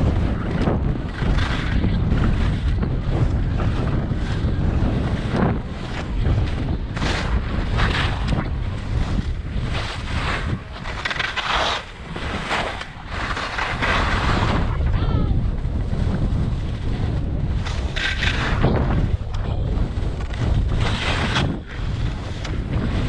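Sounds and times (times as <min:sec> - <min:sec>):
skis scraping on snow: 0:00.0 - 0:14.9, 0:15.5 - 0:23.0
wind buffeting microphone: 0:00.0 - 0:23.0.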